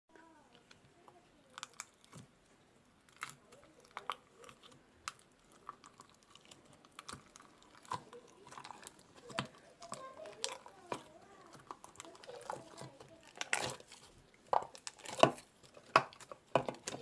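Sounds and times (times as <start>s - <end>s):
sharp crisp crunches and clicks: 3.1s - 17.0s.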